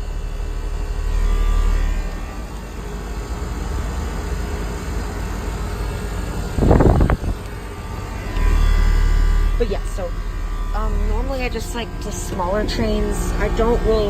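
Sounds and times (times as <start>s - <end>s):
air conditioner compressor hum: 0.0s - 14.0s
loud burst of noise: 0.0s - 14.0s.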